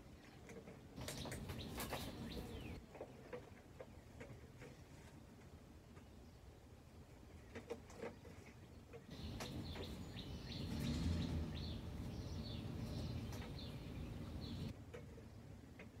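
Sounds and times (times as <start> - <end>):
small birds chirping: 0.0 - 5.1, 5.8 - 16.0.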